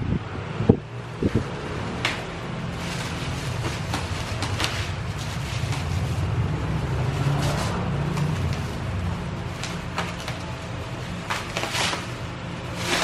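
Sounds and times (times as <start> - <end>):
plastic and bubble wrap crinkling: 2.0 - 13.0.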